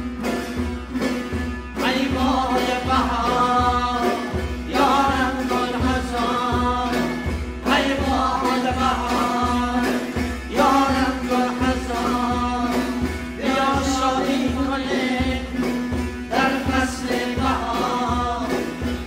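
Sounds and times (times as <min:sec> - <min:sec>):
person singing folk melody: 0:00.0 - 0:19.0.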